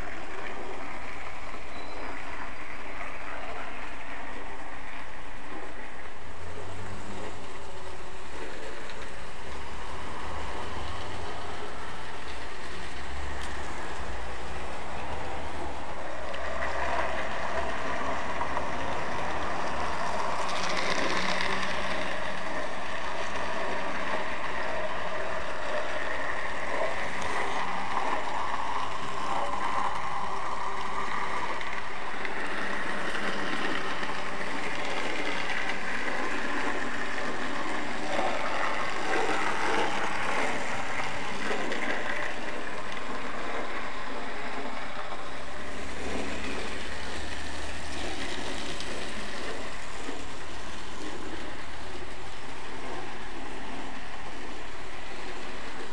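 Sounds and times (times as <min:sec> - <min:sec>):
model train motor whirring: 0:00.0 - 0:55.9
wheels rattling on track: 0:00.0 - 0:55.9.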